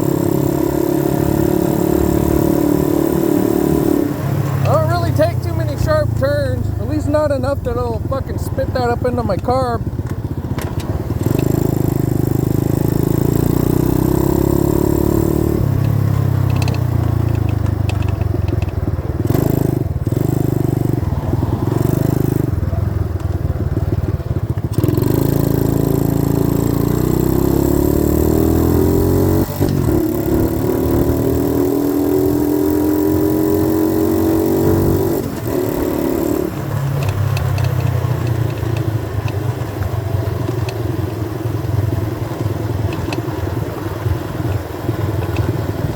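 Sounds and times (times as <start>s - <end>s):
dirt bike engine revving: 0.0s - 17.4s, 19.2s - 22.8s, 23.6s - 45.9s.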